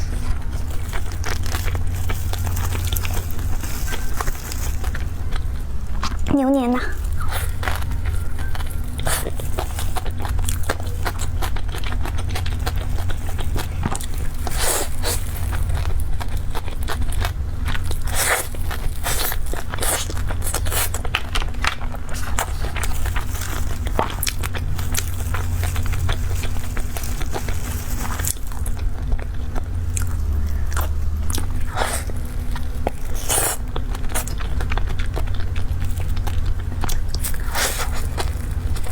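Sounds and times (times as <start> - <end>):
crunchy bites and chewing: 0.0 - 6.3, 6.9 - 38.9
steady low hum: 0.0 - 38.9.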